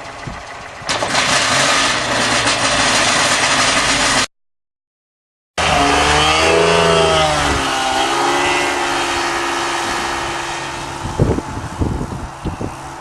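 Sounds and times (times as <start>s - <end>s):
engine running loud: 0.0s - 4.3s, 5.6s - 13.0s.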